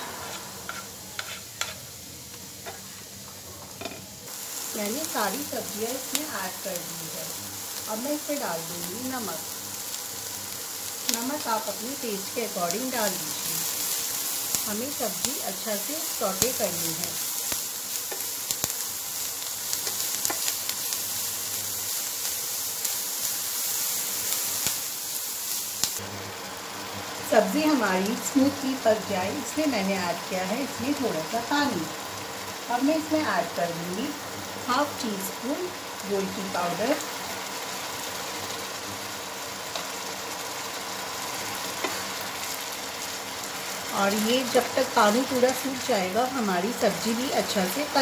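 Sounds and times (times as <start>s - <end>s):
vegetables sizzling in a frying pan: 0.0s - 48.0s.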